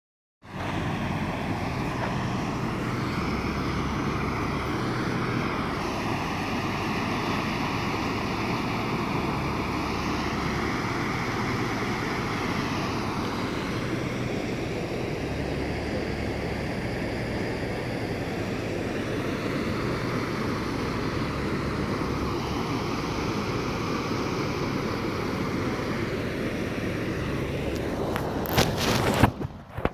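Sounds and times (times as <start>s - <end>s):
water rushing: 0.5s - 29.2s.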